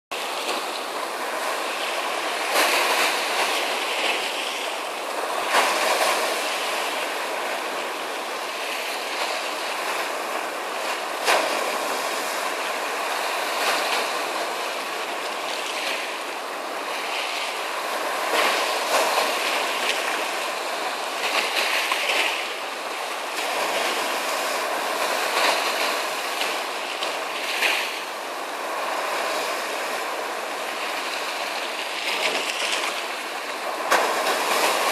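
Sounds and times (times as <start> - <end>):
sea waves breaking: 0.1 - 34.9.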